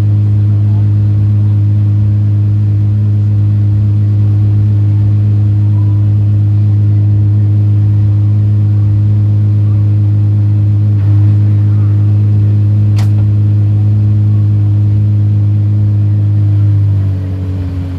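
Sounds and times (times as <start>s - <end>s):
car engine idling: 0.1s - 17.9s.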